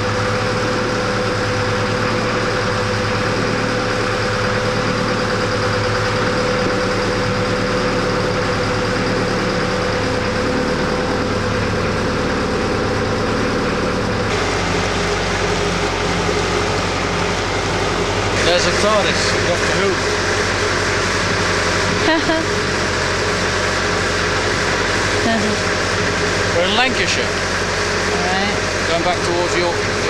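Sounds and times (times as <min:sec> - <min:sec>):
boat diesel engine running: 0:00.0 - 0:30.0.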